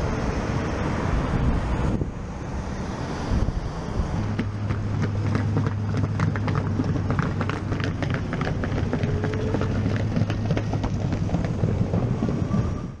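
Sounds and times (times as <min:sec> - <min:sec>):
wind buffeting microphone: 0:01.0 - 0:02.3, 0:03.2 - 0:13.0.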